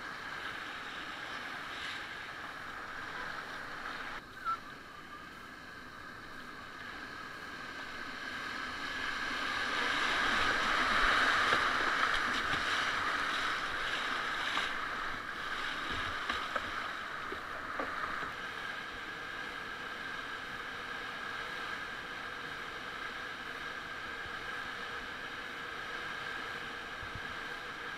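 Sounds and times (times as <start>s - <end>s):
rushing white water: 0.0s - 27.9s.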